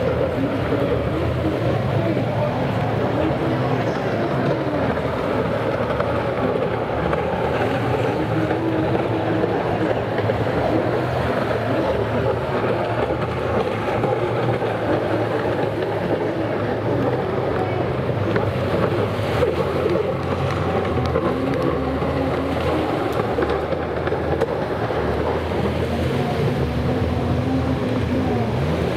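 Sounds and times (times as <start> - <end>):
distant jet ski engines: 0.0 - 28.9.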